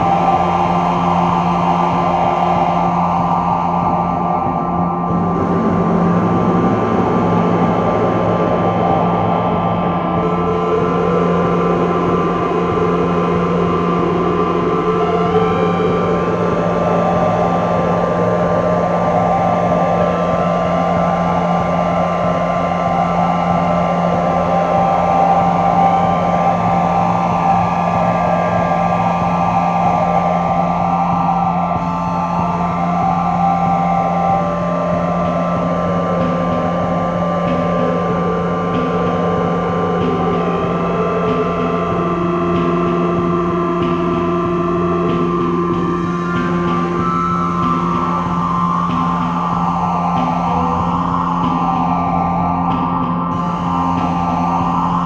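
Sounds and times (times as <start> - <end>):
ambient drone music: 0.0 - 55.0.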